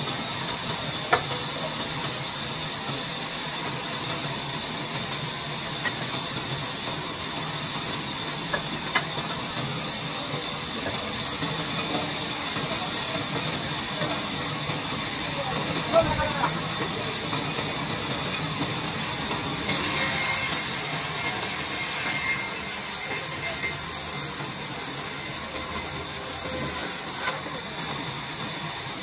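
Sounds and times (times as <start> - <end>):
band saw cutting log: 4.1 - 27.7.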